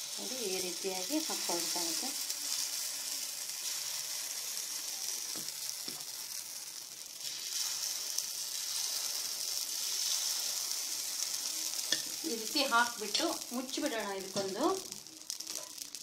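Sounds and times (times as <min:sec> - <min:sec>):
batter sizzling: 0:00.0 - 0:16.0.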